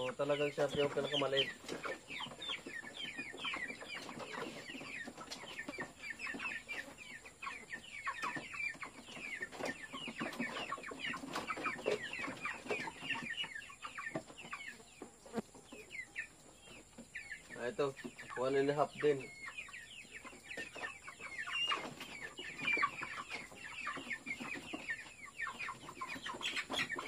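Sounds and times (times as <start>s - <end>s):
chickens peeping: 0.0s - 27.0s.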